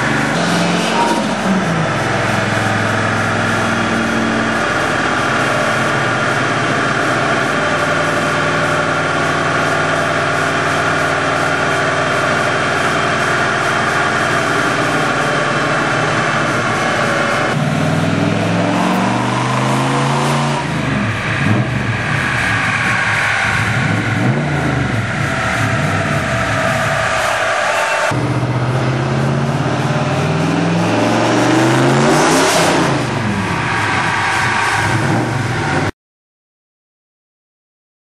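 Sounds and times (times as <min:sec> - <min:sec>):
car engine on dyno: 0:00.0 - 0:35.9.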